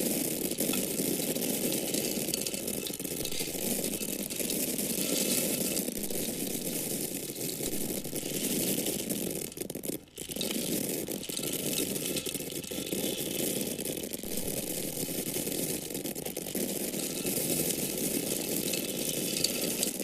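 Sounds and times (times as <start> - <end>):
dry grains pouring: 0.0 - 20.0.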